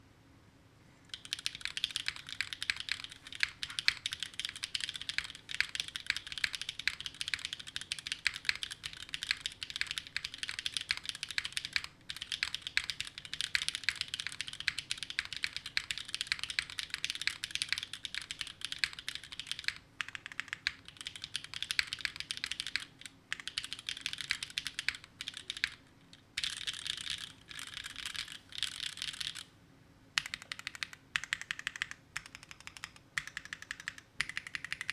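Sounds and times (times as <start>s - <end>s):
mechanical keyboard typing: 1.1s - 29.5s, 30.2s - 34.9s.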